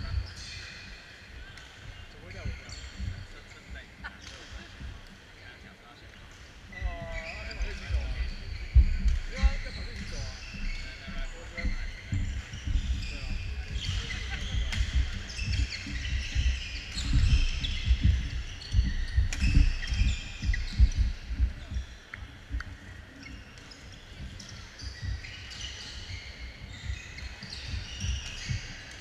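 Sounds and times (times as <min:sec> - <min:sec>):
sneaker squeaks: 0:00.0 - 0:29.0.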